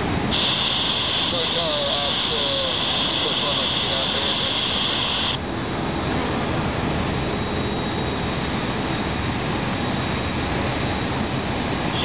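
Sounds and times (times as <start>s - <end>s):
jet rolling on runway: 0.0s - 12.0s.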